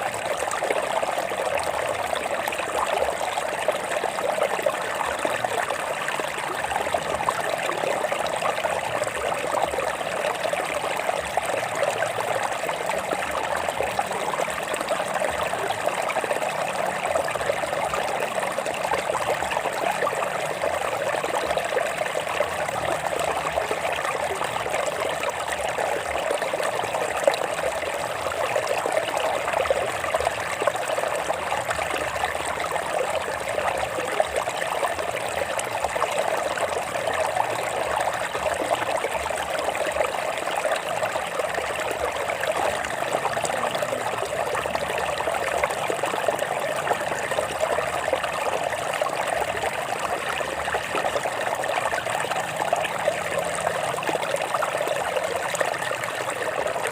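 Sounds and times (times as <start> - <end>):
stream flowing over rocks: 0.0 - 56.9.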